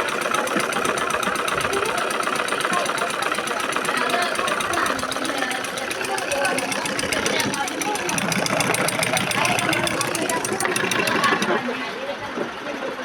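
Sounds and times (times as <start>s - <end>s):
sewing machine clattering: 0.0s - 11.9s.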